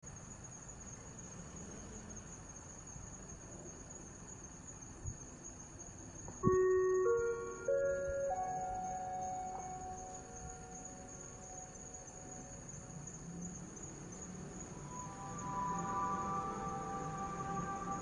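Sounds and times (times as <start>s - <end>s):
high insect chirping: 0.1s - 18.0s.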